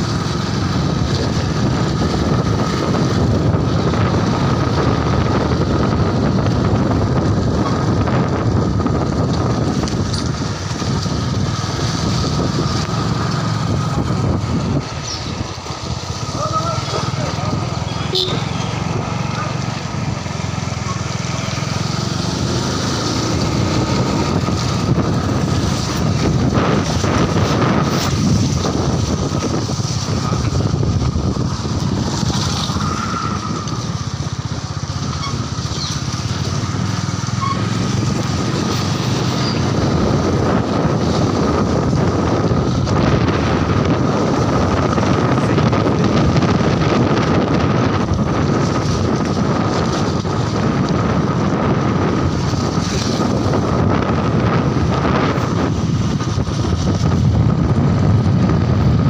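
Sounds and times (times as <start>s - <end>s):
motorcycle engine: 0.0s - 59.0s
wind rushing over microphone: 0.0s - 59.0s.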